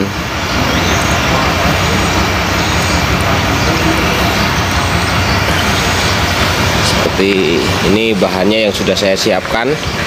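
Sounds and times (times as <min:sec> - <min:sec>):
steady mechanical drone: 0:00.0 - 0:10.0.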